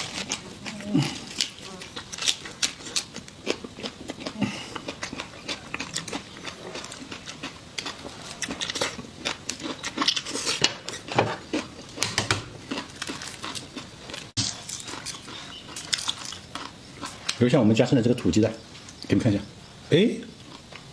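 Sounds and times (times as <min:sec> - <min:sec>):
biting and chewing: 0:00.0 - 0:17.5, 0:20.4 - 0:20.9.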